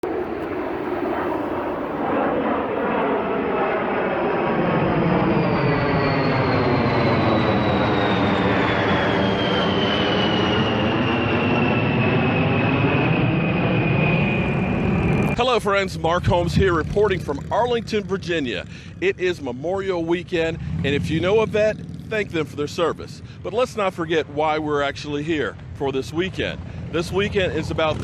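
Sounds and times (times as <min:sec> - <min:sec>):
aircraft engine passing overhead: 0:00.0 - 0:28.0.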